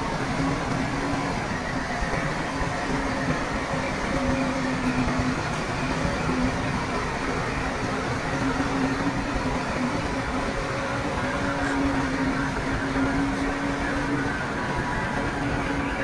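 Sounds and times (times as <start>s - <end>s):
constant droning note: 2.4s - 16.0s.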